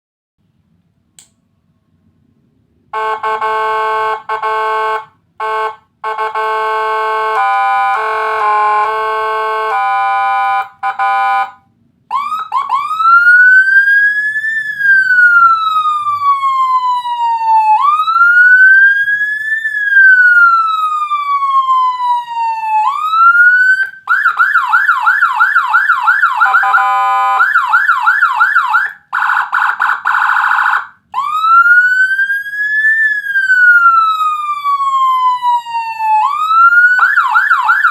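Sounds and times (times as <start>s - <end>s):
electronic siren: 3.0s - 37.9s.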